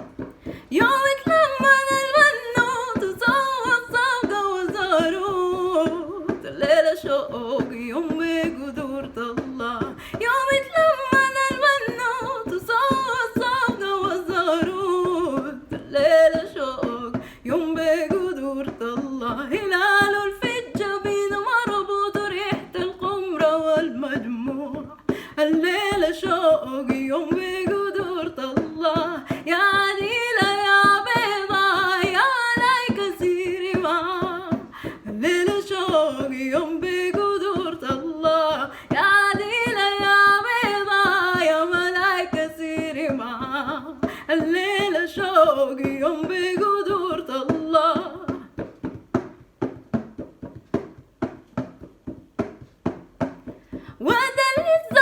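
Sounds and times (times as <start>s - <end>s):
woman singing: 0.0s - 49.0s, 53.6s - 55.0s
quick percussive beat: 0.0s - 55.0s.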